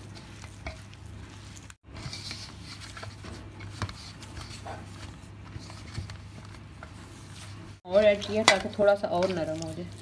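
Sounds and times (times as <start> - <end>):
dough squishing and scraping: 0.0 - 10.0.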